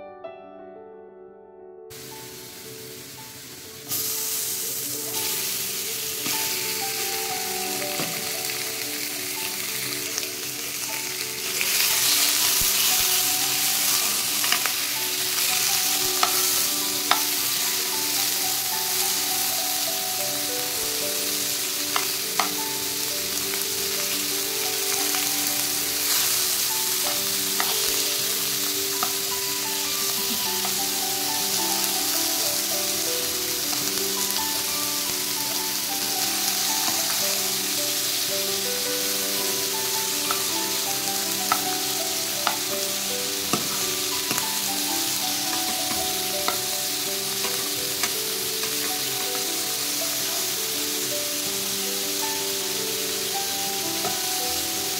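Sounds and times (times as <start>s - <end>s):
background music: 0.0s - 54.9s
meat sizzling in a wok: 1.9s - 54.9s.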